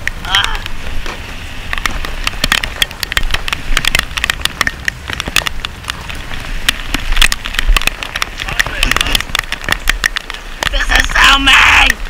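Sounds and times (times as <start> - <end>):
rain drops tapping: 0.0 - 12.0.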